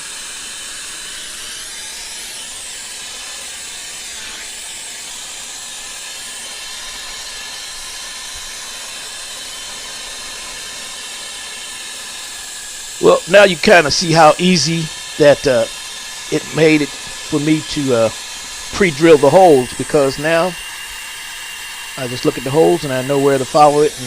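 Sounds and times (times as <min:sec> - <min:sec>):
gas torch flame hissing: 0:00.0 - 0:24.0.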